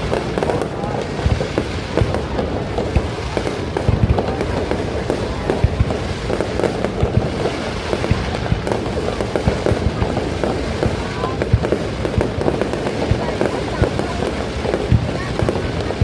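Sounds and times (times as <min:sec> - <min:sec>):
fireworks bangs and booms: 0:00.0 - 0:16.0.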